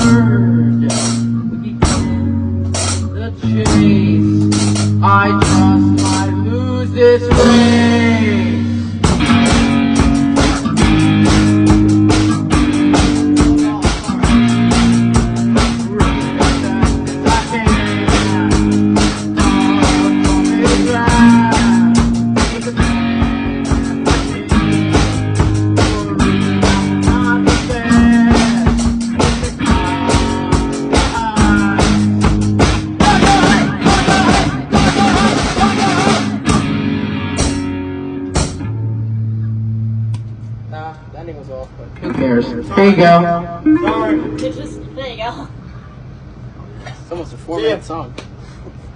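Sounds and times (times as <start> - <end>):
rock band playing: 0.0 - 40.7, 41.8 - 46.6.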